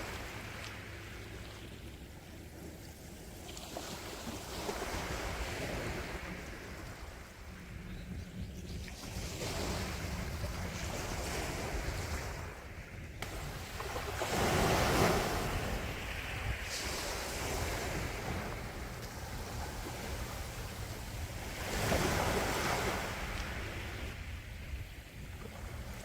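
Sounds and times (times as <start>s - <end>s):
waves breaking: 0.0s - 7.9s, 8.8s - 26.0s
low rumble of surf: 0.0s - 26.0s
wind on microphone: 0.0s - 26.0s.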